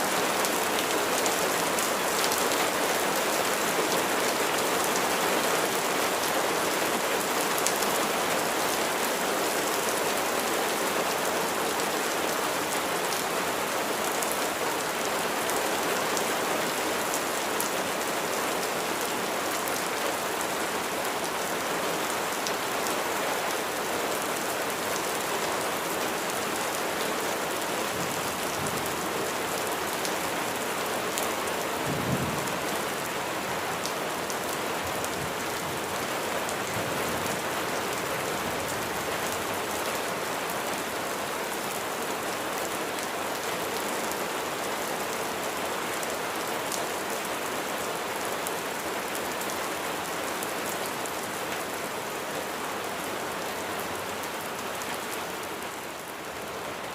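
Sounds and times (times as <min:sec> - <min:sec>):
rain pattering on surfaces: 0:00.0 - 0:56.9.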